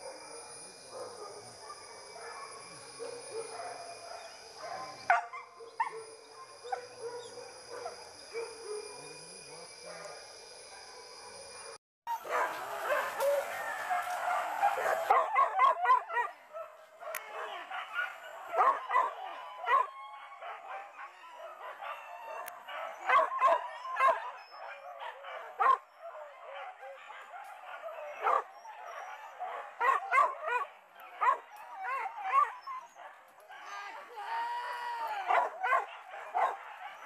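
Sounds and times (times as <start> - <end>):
dogs barking and yelping: 0.0 - 33.6, 35.3 - 37.0.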